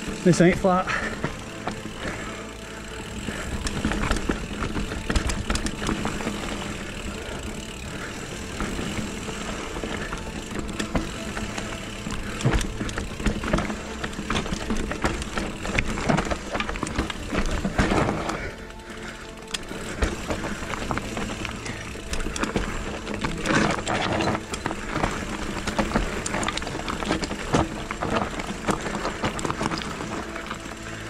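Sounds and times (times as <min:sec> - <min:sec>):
bike frame rattling and knocking: 0:00.0 - 0:31.0
tyres rumbling over dirt: 0:00.0 - 0:31.0.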